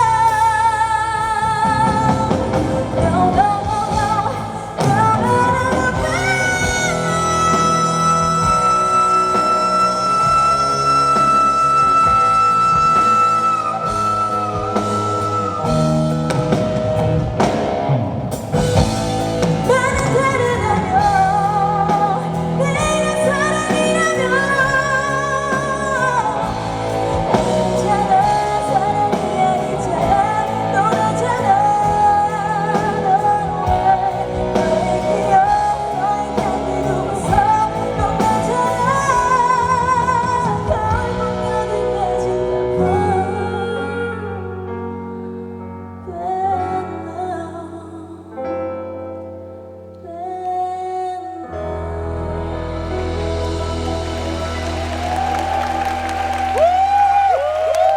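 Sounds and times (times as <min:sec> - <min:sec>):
woman singing with vibrato: 0:00.0 - 0:17.5, 0:18.5 - 0:48.7, 0:50.0 - 0:57.9
backing band playing: 0:00.0 - 0:45.6, 0:51.5 - 0:57.9.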